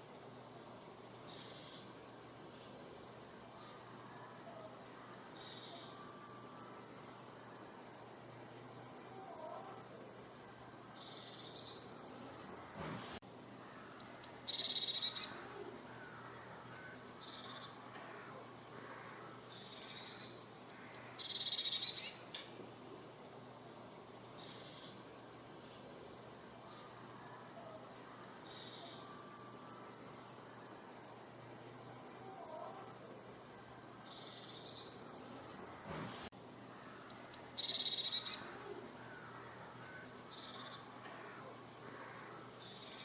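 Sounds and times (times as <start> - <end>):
songbird singing: 0.0 - 43.0.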